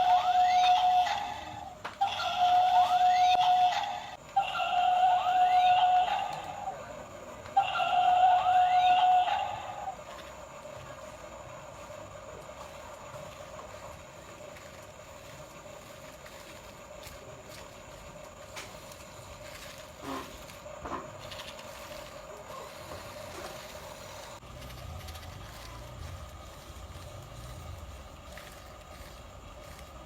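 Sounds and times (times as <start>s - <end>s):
steady motor hum: 0.0s - 30.0s.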